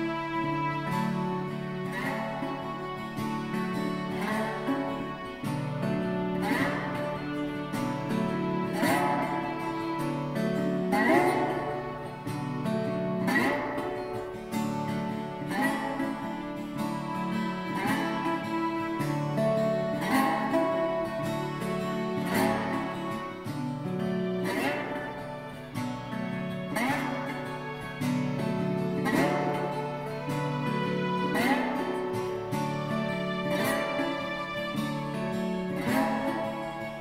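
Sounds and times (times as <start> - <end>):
acoustic guitar strummed slowly: 0.0 - 37.0.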